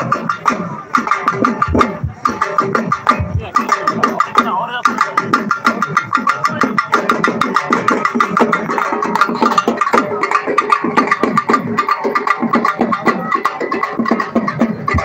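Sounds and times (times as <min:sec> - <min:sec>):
frame drums beaten fast: 0:00.0 - 0:15.0.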